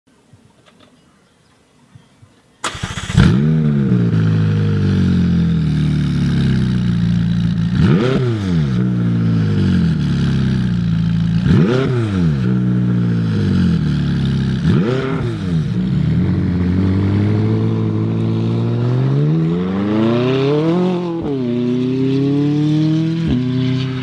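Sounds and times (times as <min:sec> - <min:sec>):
sports car engine starting and revving: 0:02.6 - 0:24.0.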